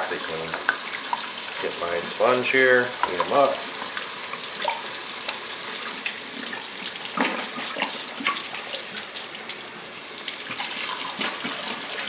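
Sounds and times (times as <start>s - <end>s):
faucet running into sink: 0.0s - 12.0s.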